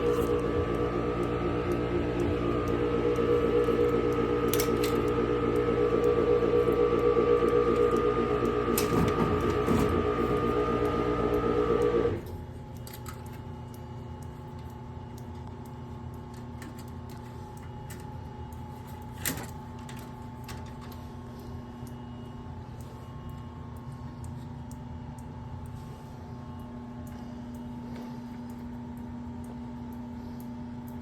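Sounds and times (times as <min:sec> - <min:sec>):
faint hum: 0:00.0 - 0:31.0
furnace motor humming: 0:00.0 - 0:31.0
click: 0:00.1 - 0:25.8.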